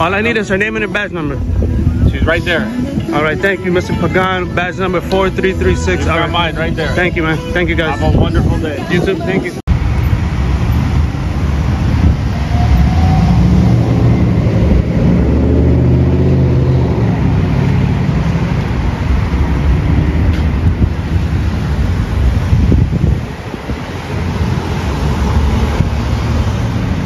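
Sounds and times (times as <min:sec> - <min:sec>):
road traffic passing: 0:00.0 - 0:27.0
vehicle engine rumble: 0:00.0 - 0:27.0.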